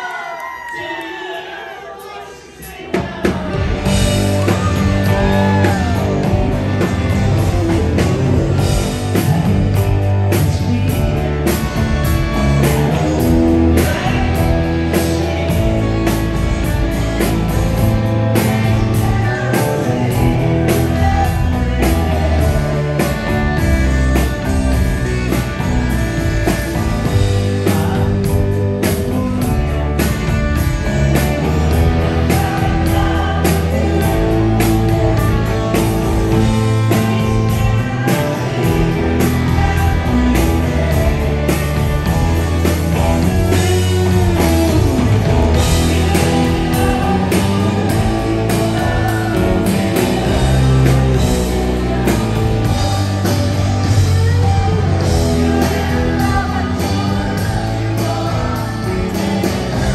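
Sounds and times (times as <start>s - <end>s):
drum kit: 2.0s - 59.9s
rock band playing live: 2.0s - 59.9s.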